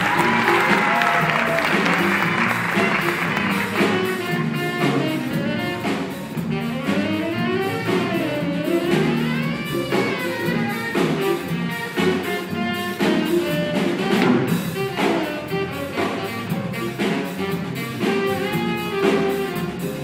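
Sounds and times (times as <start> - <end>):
big band jazz: 0.0 - 20.0
saxophone solo: 0.0 - 20.0.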